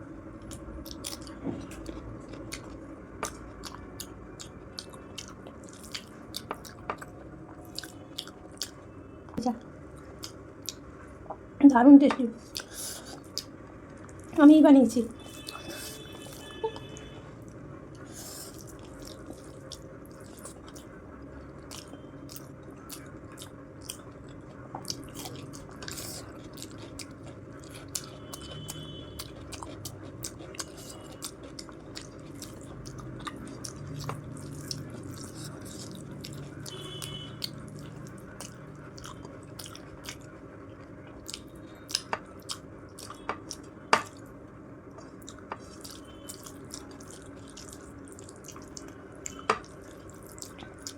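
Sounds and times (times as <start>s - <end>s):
chewing and biting: 0.4s - 8.8s, 12.5s - 14.3s, 18.0s - 20.9s, 21.6s - 44.3s, 45.0s - 50.9s.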